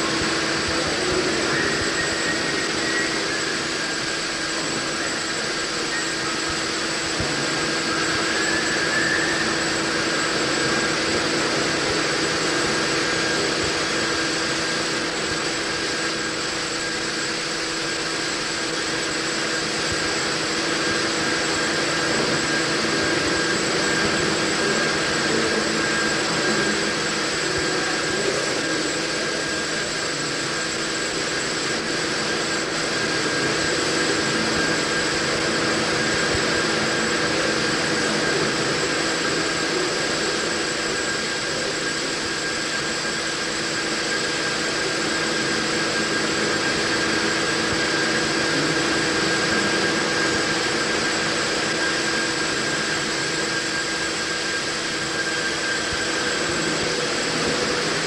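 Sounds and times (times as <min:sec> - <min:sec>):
constant tonal hum: 0:00.0 - 0:58.0.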